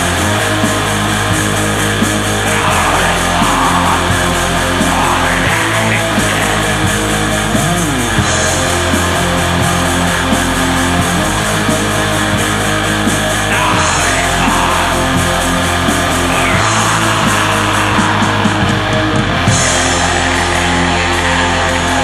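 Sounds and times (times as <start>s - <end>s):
distorted electric guitars: 0.0s - 22.0s
drumming and cymbals: 0.0s - 22.0s.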